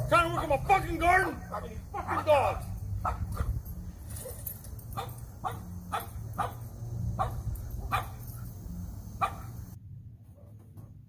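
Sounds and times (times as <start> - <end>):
dogs barking: 0.0 - 9.8.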